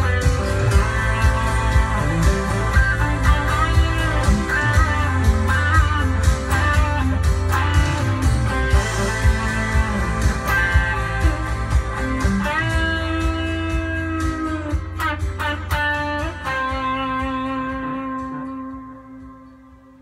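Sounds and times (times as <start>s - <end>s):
band playing: 0.0s - 20.0s
bass guitar: 0.0s - 20.0s
slide guitar: 0.0s - 20.0s.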